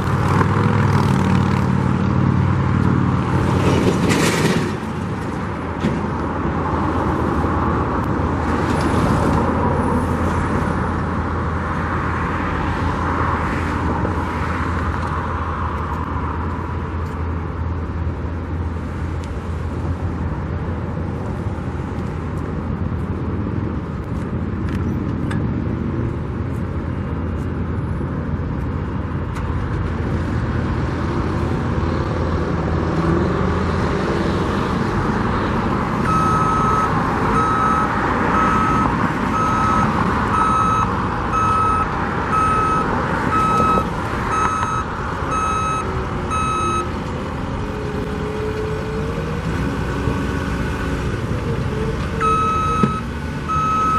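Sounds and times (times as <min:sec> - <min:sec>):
louder vehicle engine: 0:00.0 - 0:53.9
road traffic passing: 0:00.0 - 0:53.9.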